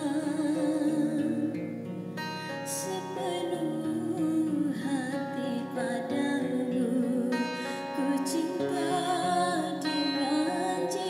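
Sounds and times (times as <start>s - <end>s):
woman singing with vibrato: 0.0s - 1.7s, 2.6s - 11.0s
acoustic guitar: 0.0s - 11.0s.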